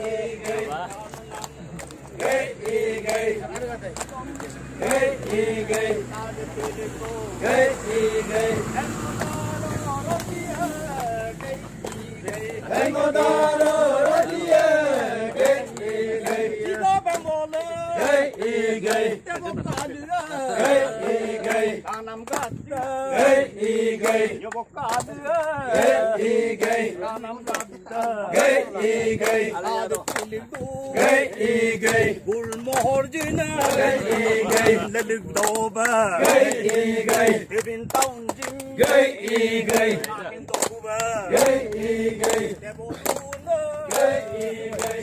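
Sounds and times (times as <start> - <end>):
group of voices chanting: 0.0 - 45.0.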